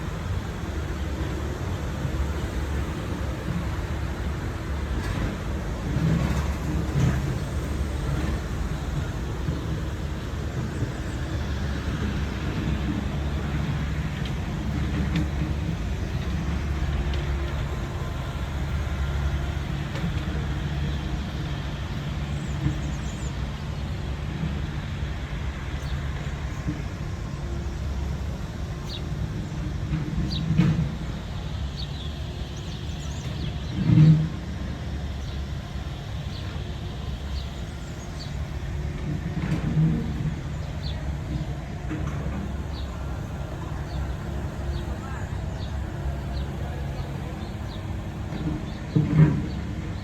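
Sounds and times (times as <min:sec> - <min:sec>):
city traffic rumble: 0:00.0 - 0:50.0
vehicles passing: 0:00.0 - 0:50.0.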